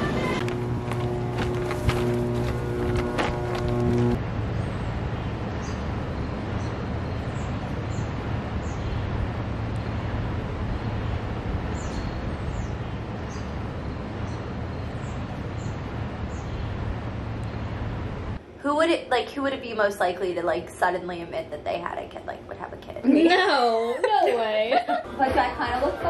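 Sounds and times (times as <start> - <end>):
low hum: 0.0 - 23.0
outdoor background rumble: 0.0 - 23.7.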